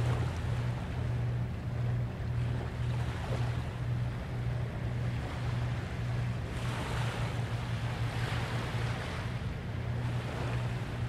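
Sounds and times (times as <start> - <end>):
ocean waves washing onto beach: 0.0 - 11.0
steady low hum: 0.0 - 11.0.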